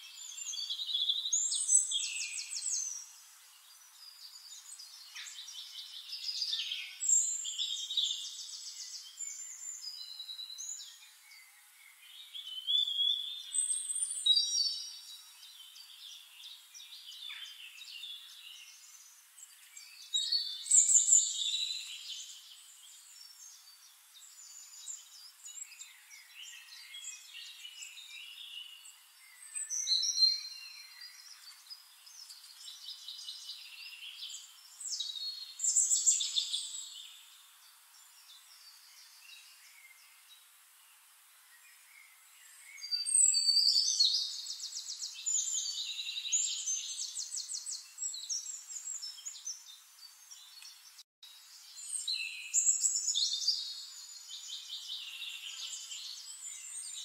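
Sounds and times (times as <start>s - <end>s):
small birds chirping and singing: 0.0s - 57.0s.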